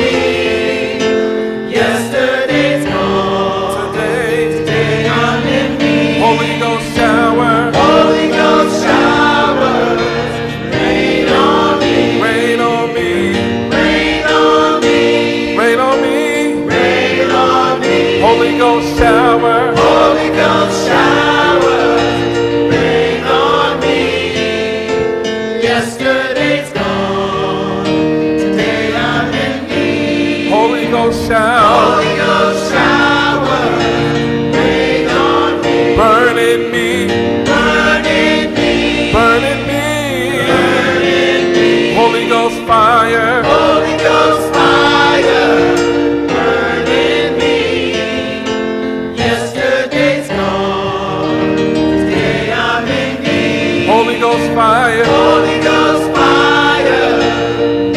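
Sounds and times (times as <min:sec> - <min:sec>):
choir singing gospel: 0:00.0 - 0:57.9
held instrumental chords: 0:00.0 - 0:57.9.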